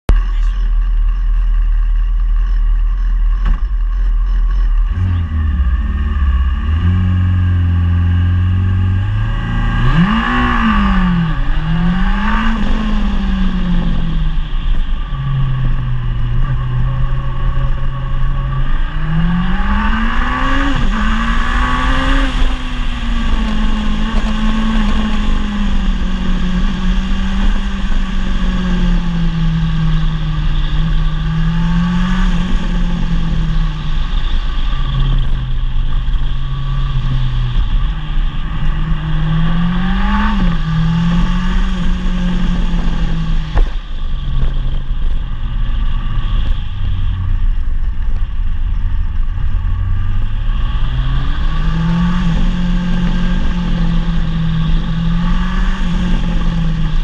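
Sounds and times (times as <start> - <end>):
rally car engine revving: 0.1 - 57.0.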